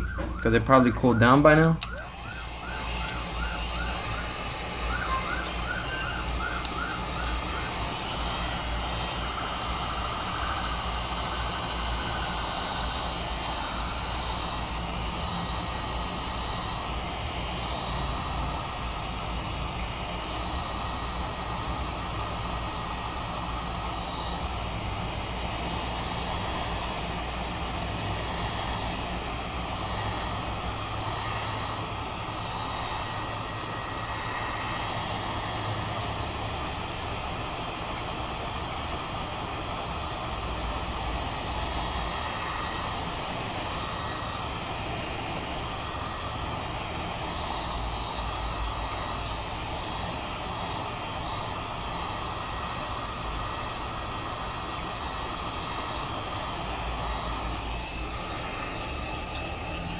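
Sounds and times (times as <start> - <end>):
heat gun fan blowing: 0.0 - 59.9.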